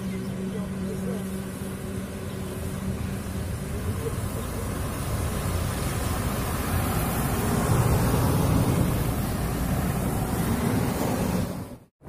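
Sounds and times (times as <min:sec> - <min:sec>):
wind buffeting microphone: 0:00.0 - 0:11.8
vehicle road noise rumble: 0:00.0 - 0:12.0.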